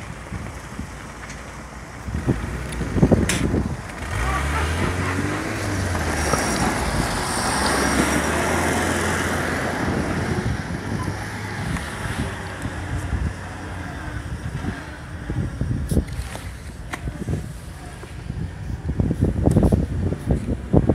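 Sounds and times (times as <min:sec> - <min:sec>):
all-terrain vehicle engine droning: 0:00.0 - 0:20.9
rough travel noise: 0:00.0 - 0:20.9.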